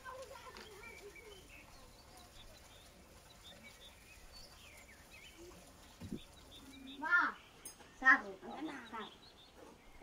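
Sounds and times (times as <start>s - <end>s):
faint bird chirps: 0.1s - 10.0s.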